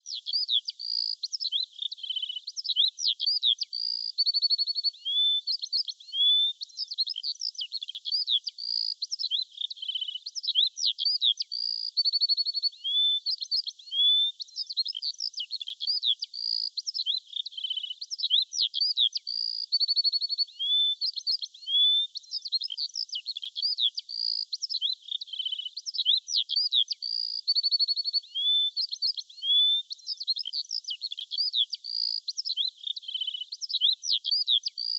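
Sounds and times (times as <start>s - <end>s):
songbird chorus: 0.0s - 34.9s.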